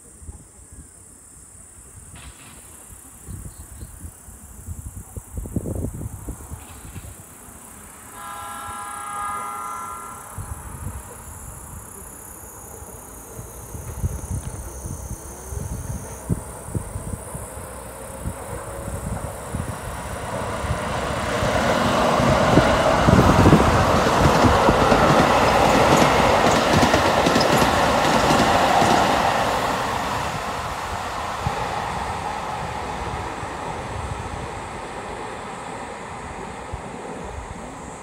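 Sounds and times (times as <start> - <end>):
electric train passing: 4.2 - 38.0.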